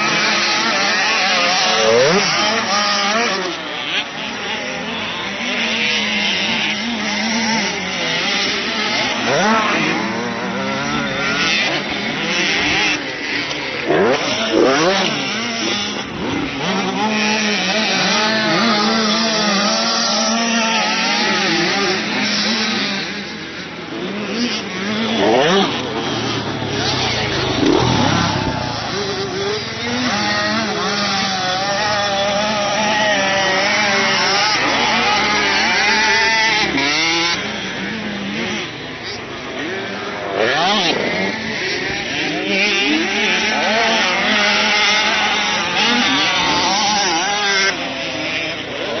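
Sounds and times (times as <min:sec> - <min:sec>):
motocross bike engines: 0:00.0 - 0:49.0.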